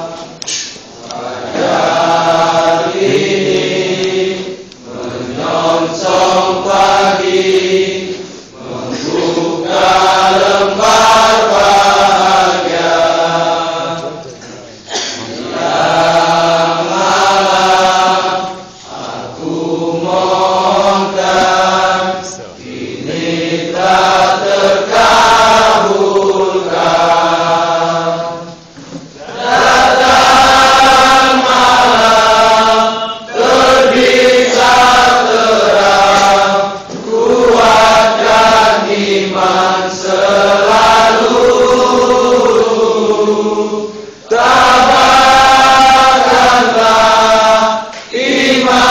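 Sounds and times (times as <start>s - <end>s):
group singing in unison: 0.0s - 48.9s.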